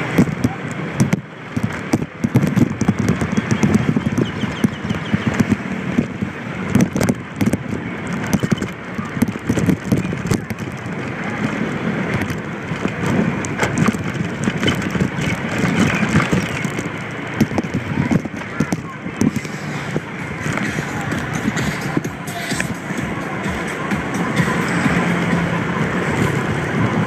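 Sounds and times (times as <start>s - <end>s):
scooter engine running: 0.0s - 27.0s
wind buffeting microphone: 0.0s - 27.0s.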